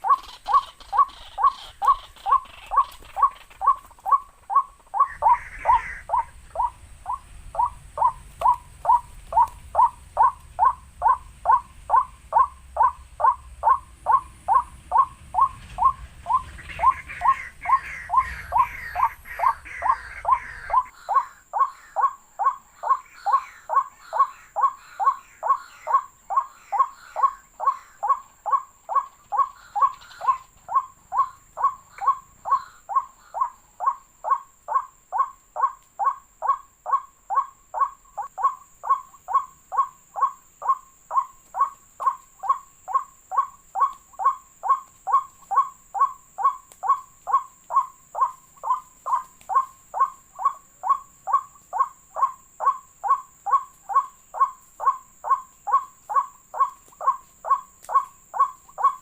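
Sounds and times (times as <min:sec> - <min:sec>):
birds chirping: 0:00.0 - 0:59.0
waterhen calling: 0:00.0 - 0:59.0.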